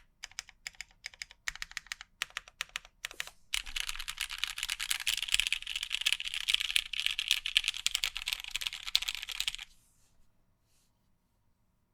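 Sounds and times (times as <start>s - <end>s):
mechanical keyboard typing: 0.0s - 9.7s.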